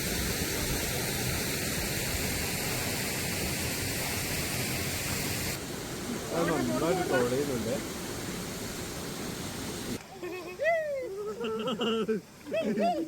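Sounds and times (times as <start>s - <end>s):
waterfall rushing: 0.0s - 10.6s.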